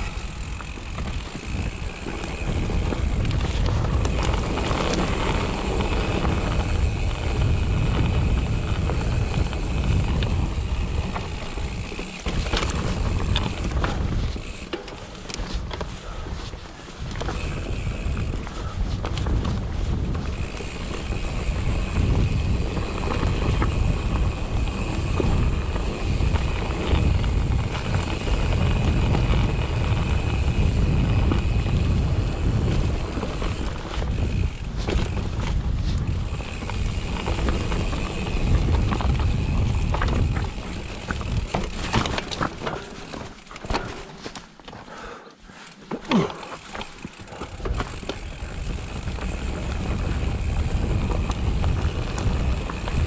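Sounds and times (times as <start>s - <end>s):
wind buffeting microphone: 0.0s - 14.7s, 15.3s - 44.0s, 47.0s - 53.0s
tyres rumbling on rocks: 0.0s - 16.2s, 17.1s - 44.4s, 45.9s - 53.0s
bike rattling: 0.0s - 53.0s.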